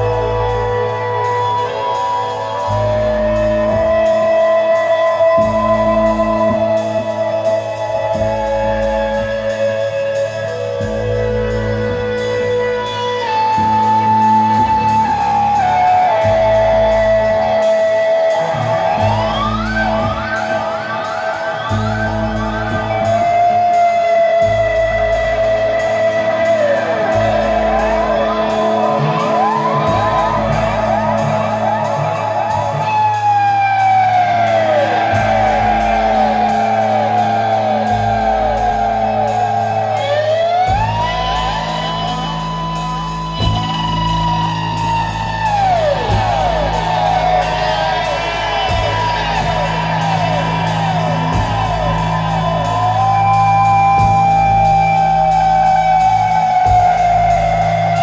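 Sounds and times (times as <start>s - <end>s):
psychedelic rock music: 0.0s - 58.0s
sliding electric guitar: 0.0s - 58.0s.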